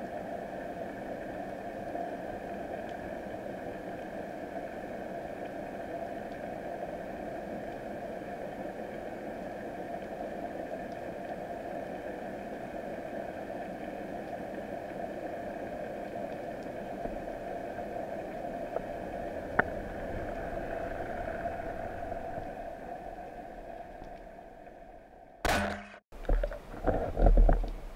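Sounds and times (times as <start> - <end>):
underwater water rushing: 0.0 - 27.9.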